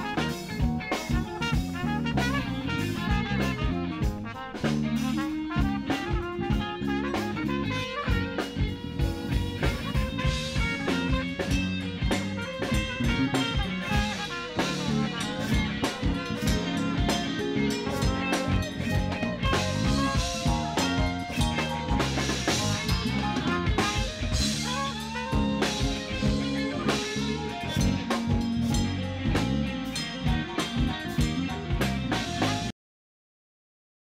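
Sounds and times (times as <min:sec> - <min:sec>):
drum kit steady beat: 0:00.0 - 0:32.7
electric bass: 0:00.0 - 0:32.7
keyboard: 0:00.0 - 0:32.7
trumpet: 0:00.0 - 0:32.7.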